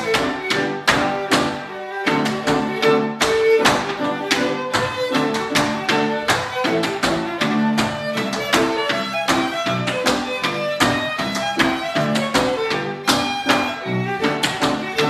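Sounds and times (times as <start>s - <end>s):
dance shoes tapping on wood: 0.0s - 15.0s
fiddle playing a hornpipe: 0.0s - 15.0s.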